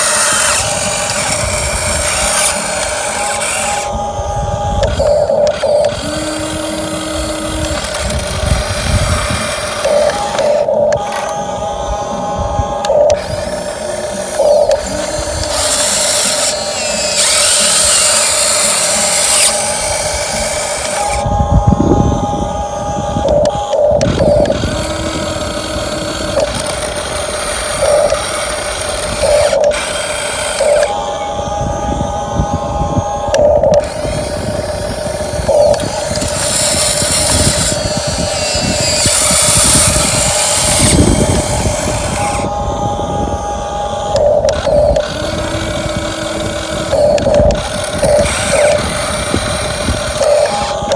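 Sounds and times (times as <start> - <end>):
constant hum: 0.0 - 50.9
small electric motors whining: 0.0 - 50.9.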